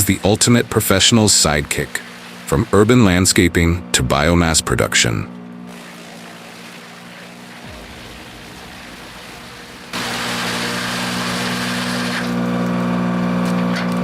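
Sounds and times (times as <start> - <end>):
machine engine droning: 0.0 - 14.0.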